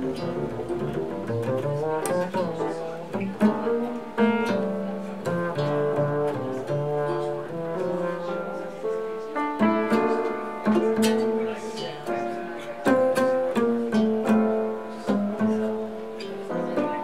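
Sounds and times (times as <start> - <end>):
guitar comping chords: 0.0 - 17.0
upright bass plucked: 0.0 - 17.0.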